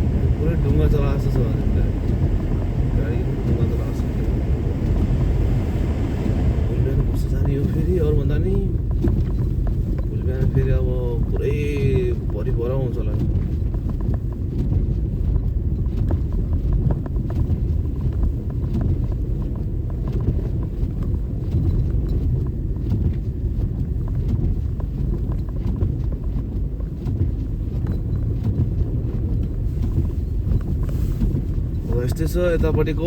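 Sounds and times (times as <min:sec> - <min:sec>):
tyres and engine rumbling: 0:00.0 - 0:33.0.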